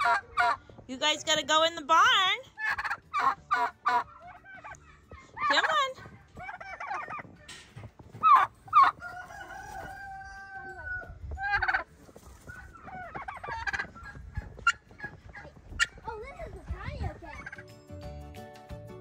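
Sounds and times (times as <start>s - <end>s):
turkeys calling: 0.0s - 17.7s.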